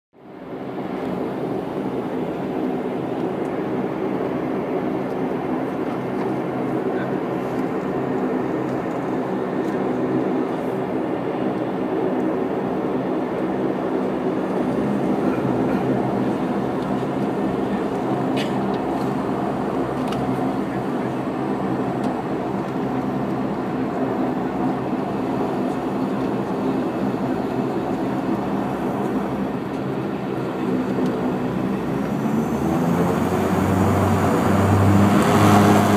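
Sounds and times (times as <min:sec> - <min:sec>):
turboprop engine drone in cabin: 0:00.2 - 0:35.9.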